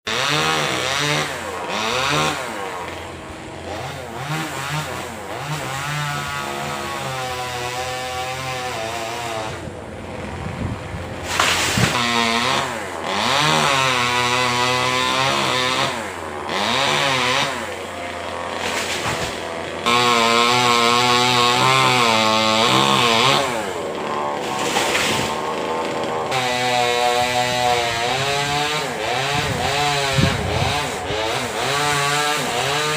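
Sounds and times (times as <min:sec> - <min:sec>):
chainsaw cutting: 0:00.0 - 0:32.9.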